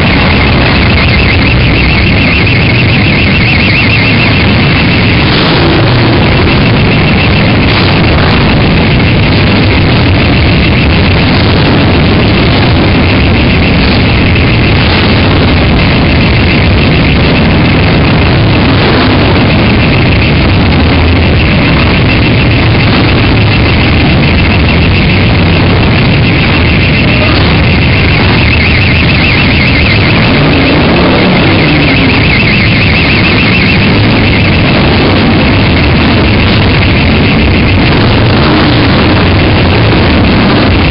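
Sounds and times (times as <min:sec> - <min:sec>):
many motorcycle engines: 0:00.0 - 0:40.9.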